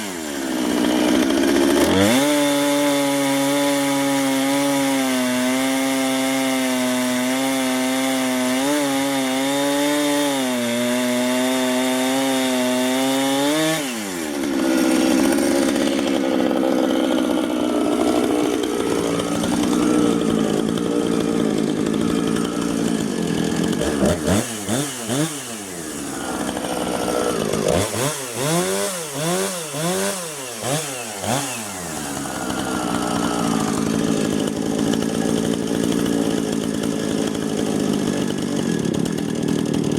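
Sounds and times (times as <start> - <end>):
chainsaw cutting a log: 0.0 - 39.9.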